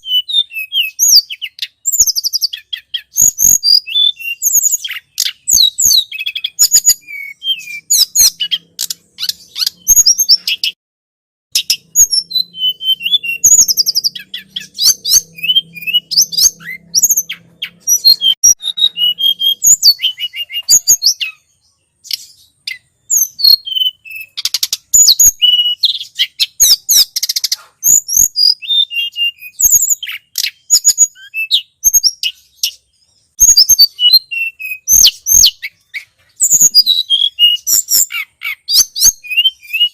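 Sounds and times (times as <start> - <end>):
songbird chirps and trills: 0.0 - 10.8, 11.5 - 39.9.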